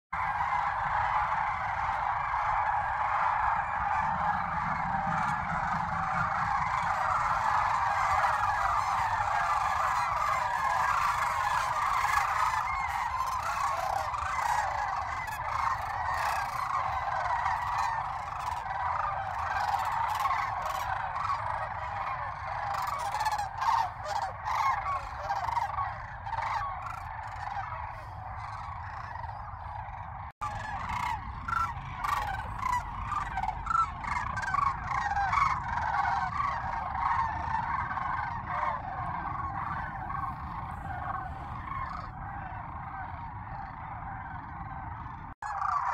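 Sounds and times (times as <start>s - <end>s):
cranes calling in flight: 0.2s - 45.9s.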